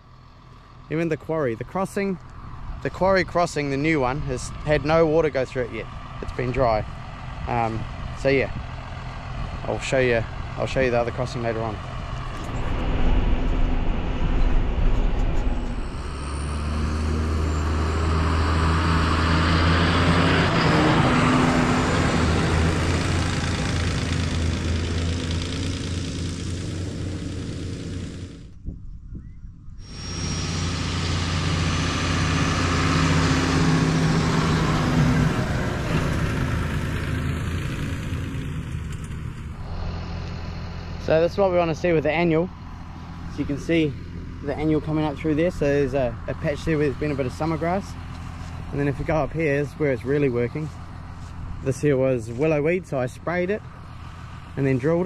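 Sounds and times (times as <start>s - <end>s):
tractor engine running: 0.0s - 28.7s, 29.8s - 55.0s.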